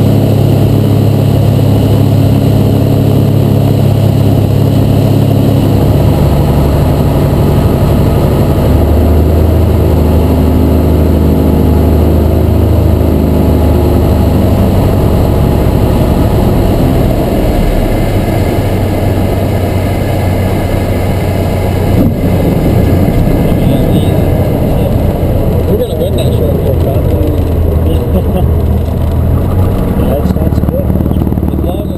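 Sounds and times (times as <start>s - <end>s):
propeller plane engine: 0.0s - 31.9s.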